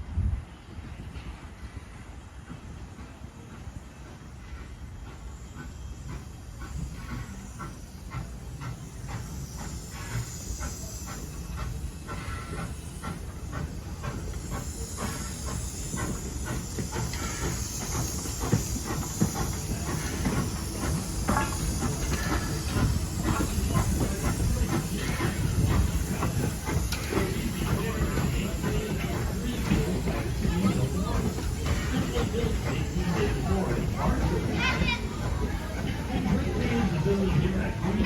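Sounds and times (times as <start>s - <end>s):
steam locomotive hissing: 0.0s - 38.0s
train clanks and knocks: 0.0s - 38.0s.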